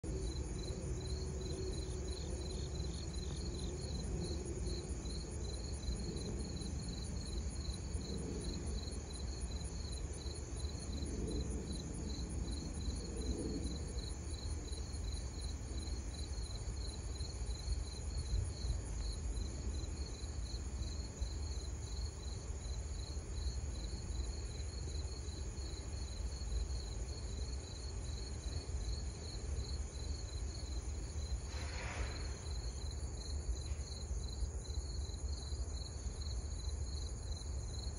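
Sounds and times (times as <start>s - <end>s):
insects chirping: 0.1s - 37.9s.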